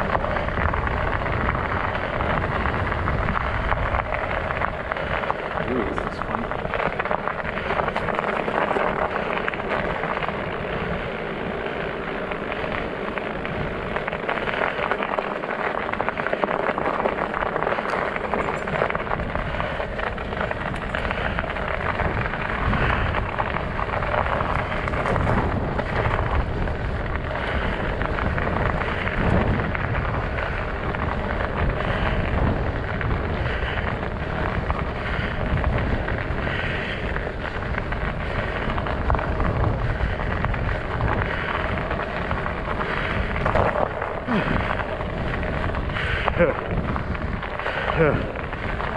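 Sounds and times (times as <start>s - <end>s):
studded tires rolling over ice: 0.0s - 48.9s
wind rumbling on microphone: 0.0s - 48.9s.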